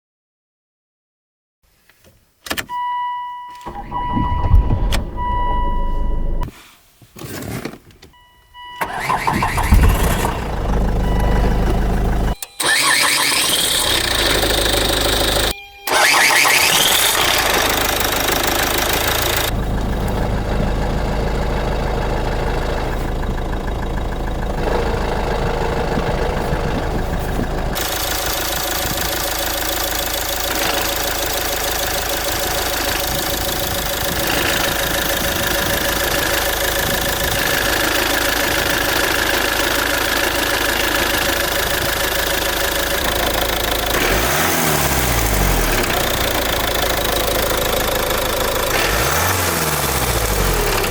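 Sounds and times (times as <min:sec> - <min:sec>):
car engine idling: 0:03.6 - 0:06.5, 0:08.8 - 0:50.9.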